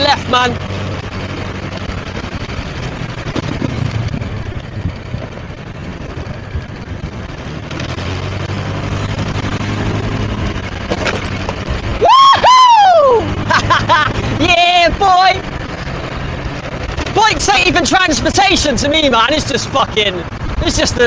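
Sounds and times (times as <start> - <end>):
motorbike engine running: 0.0 - 21.0
road and traffic noise: 0.0 - 21.0.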